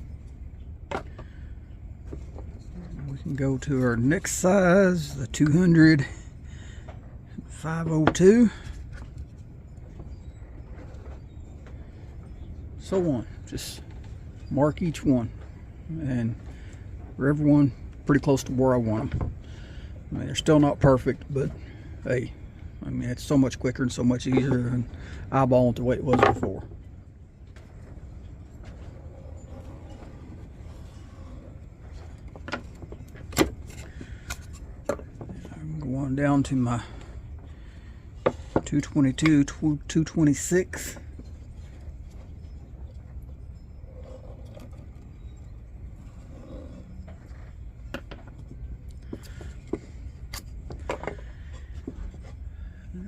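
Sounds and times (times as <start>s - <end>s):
steady low hum: 0.0s - 53.0s
steady low rumble: 0.0s - 53.0s.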